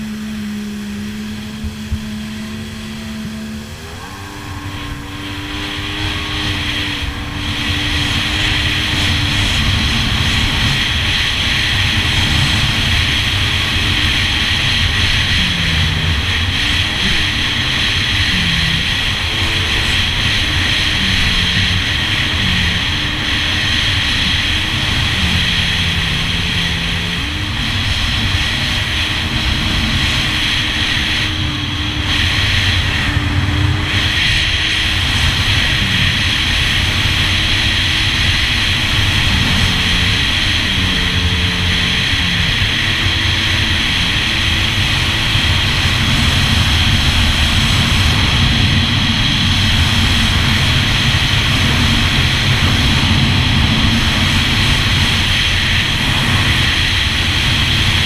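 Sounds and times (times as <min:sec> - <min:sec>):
water rushing noise: 0:00.0 - 0:58.0
watercraft engine revving: 0:00.0 - 0:58.0.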